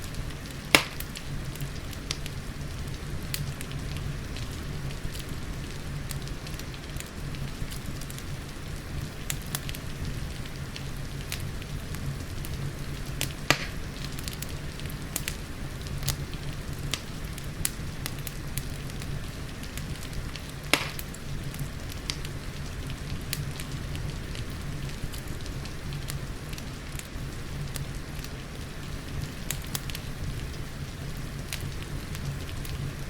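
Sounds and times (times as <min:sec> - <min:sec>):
gentle rain hissing: 0:00.0 - 0:33.0
wood fire crackling: 0:00.0 - 0:33.0.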